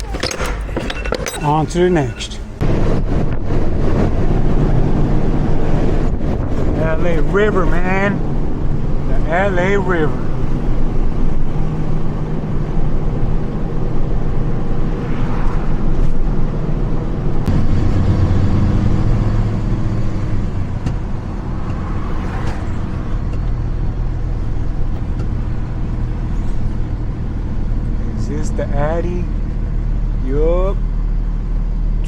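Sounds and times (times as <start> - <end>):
road noise: 0.0 - 32.0
truck engine running: 0.0 - 32.0.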